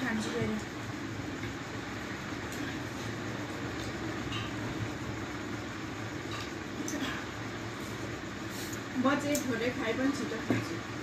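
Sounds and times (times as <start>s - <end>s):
background rumble and hiss: 0.0s - 11.0s.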